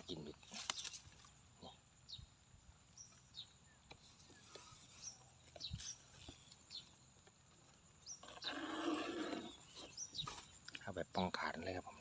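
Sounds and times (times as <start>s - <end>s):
grass rustling: 0.0s - 1.6s, 2.8s - 10.8s
small bird chirps: 0.1s - 11.3s.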